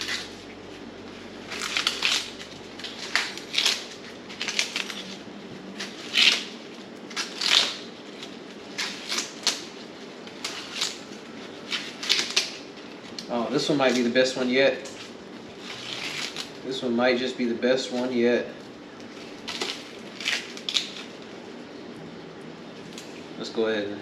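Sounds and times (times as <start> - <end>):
corn husks being torn: 0.0 - 16.9, 18.9 - 21.4.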